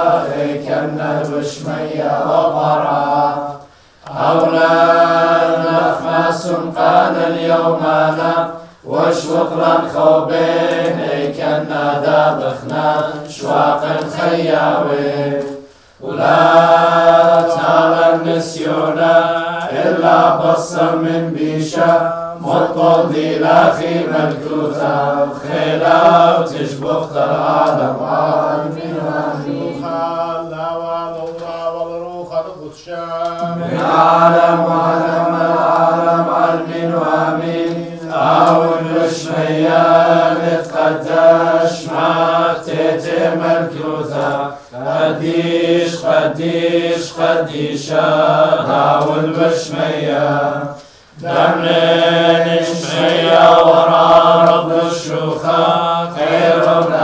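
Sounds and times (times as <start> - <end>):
group chanting a hymn: 0.0 - 57.0.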